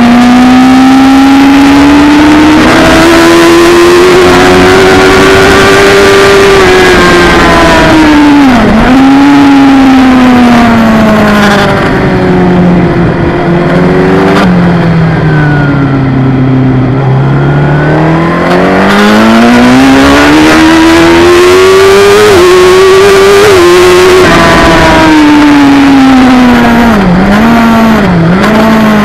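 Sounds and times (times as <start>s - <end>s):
motorcycle engine at racing speed: 0.0s - 29.0s.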